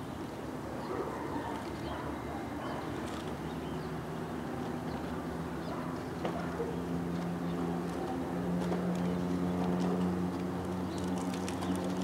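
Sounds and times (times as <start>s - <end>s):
low engine drone: 1.9s - 12.0s.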